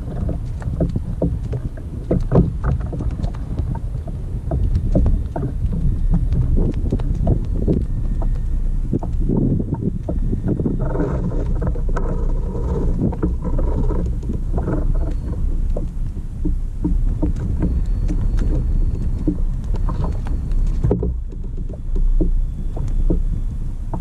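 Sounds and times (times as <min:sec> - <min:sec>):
small knocks: 0:00.0 - 0:24.0
steady low rumble: 0:00.0 - 0:24.0
water lapping against hull: 0:00.0 - 0:24.0.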